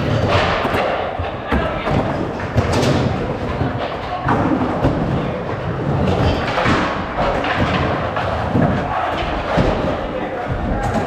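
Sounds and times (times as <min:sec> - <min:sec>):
skateboards knocking and landing: 0:00.0 - 0:11.0
skateboards rolling on ramps: 0:00.0 - 0:11.0.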